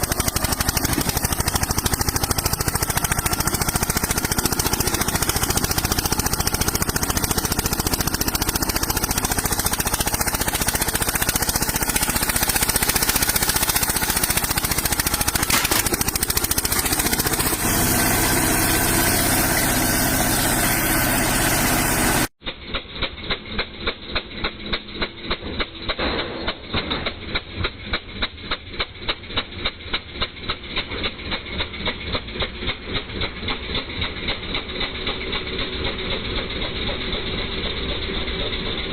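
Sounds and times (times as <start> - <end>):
diesel engine idling: 0.0 - 22.3, 27.9 - 38.9
tractor diesel engine running rough: 0.0 - 38.9.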